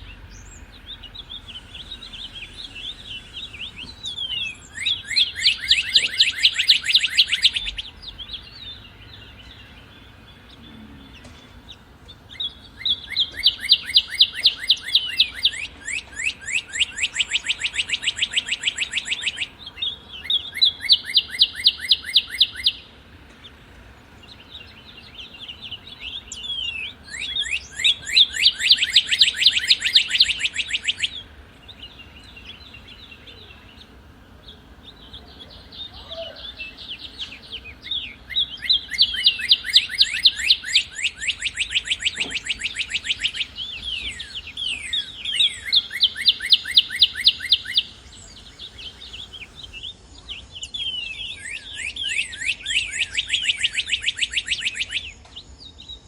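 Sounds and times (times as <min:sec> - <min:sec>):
cardinal singing whistled notes: 0:00.0 - 0:22.9, 0:24.2 - 0:56.0.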